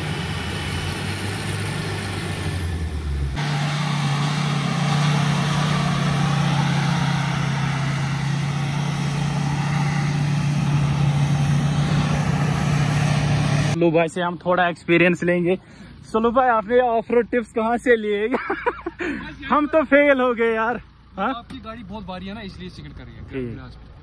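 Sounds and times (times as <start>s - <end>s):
car engine running: 0.0s - 13.8s, 15.6s - 24.0s.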